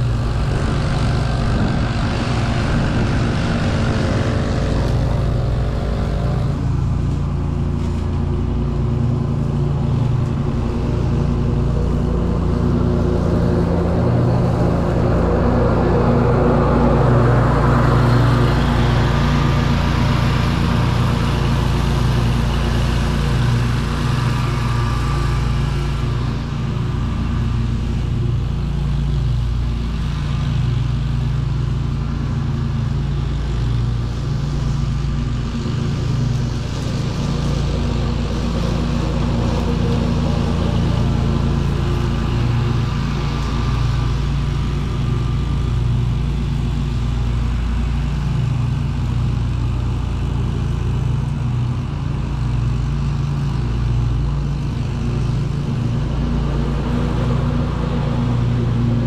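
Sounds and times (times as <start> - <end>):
small engines droning: 0.0 - 59.0.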